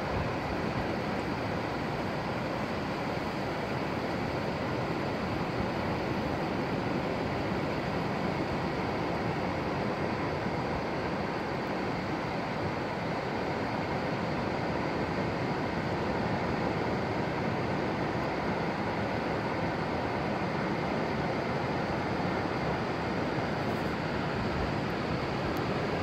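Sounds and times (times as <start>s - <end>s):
surf at shoreline: 0.0s - 26.0s.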